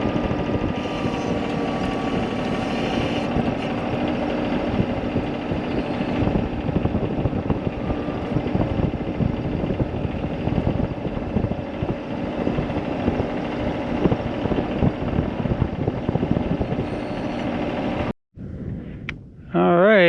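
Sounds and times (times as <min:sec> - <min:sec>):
vehicle engine running: 0:00.0 - 0:18.1.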